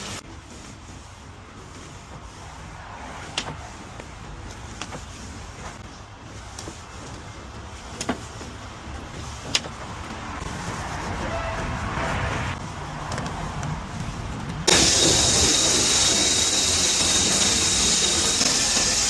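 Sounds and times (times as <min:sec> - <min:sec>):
car wash machinery rumble: 0:00.0 - 0:19.0.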